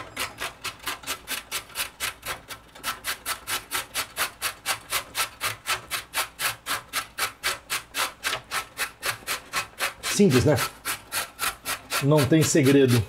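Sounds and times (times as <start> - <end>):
carrot scraping on grater: 0.0 - 13.0.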